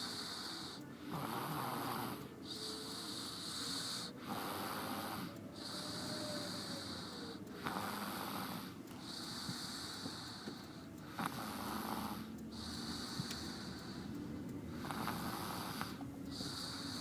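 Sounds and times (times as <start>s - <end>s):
child snoring: 0.0s - 14.1s, 14.7s - 17.0s.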